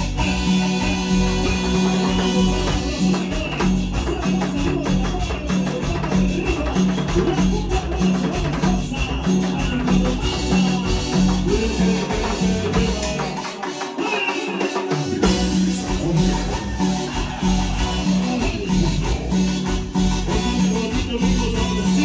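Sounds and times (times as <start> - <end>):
bass notes repeating: 0.0 - 13.2, 15.2 - 22.0
live band dance music: 0.0 - 22.0.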